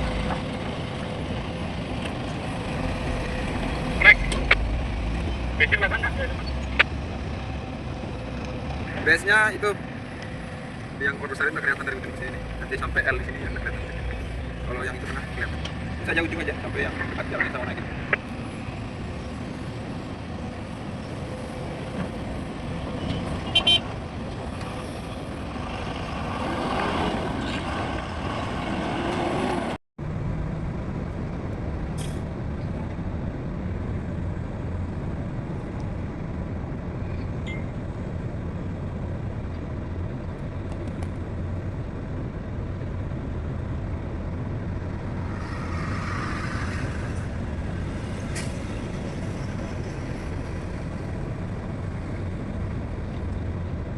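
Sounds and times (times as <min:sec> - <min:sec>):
heavy diesel machinery rumbling: 0:00.0 - 0:53.9.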